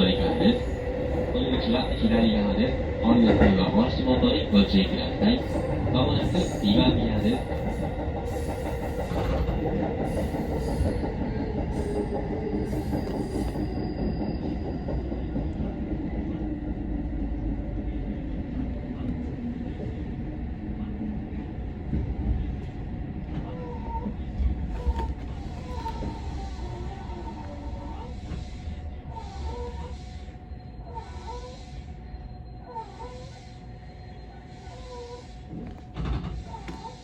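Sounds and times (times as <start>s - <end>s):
electric train running on rails: 0.0s - 37.0s.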